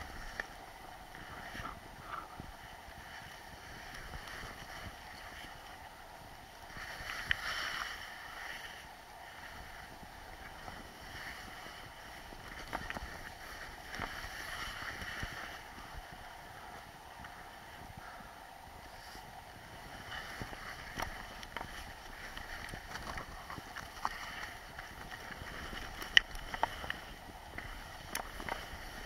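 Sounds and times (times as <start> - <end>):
skis scraping over snow: 0.0 - 29.0
wind noise on microphone: 0.0 - 29.0.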